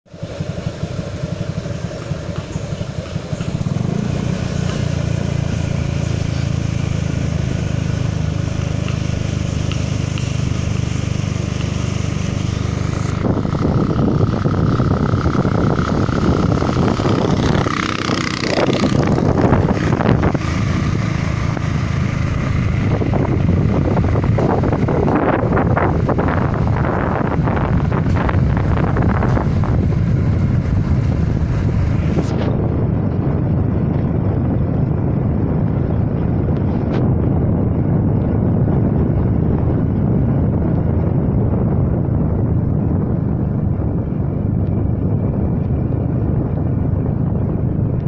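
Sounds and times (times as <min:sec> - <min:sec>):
vehicle engine running: 0:00.0 - 0:48.0
wind rushing over microphone: 0:00.1 - 0:48.0.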